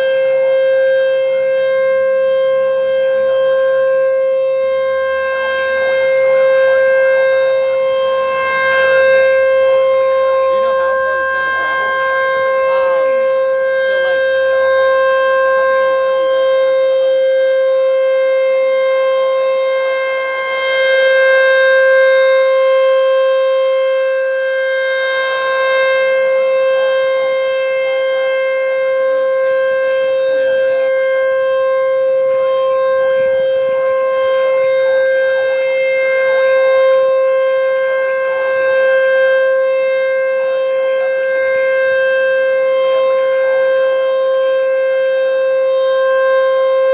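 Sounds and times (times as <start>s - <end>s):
warning siren steady tone: 0.0s - 46.9s.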